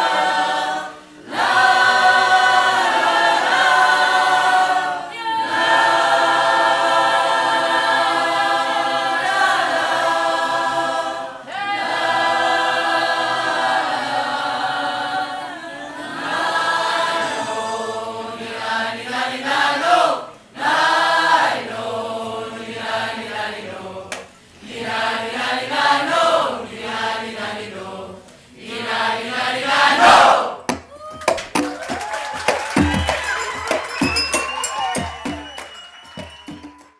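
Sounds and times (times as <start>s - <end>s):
choir singing: 0.0s - 30.8s.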